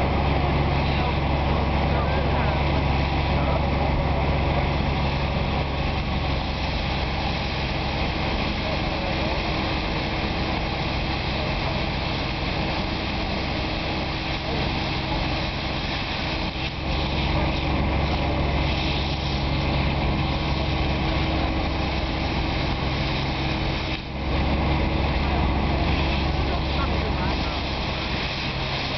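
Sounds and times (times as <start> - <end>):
high-pressure water jet hissing: 0.0 - 28.9
pressure washer motor humming: 0.0 - 28.9.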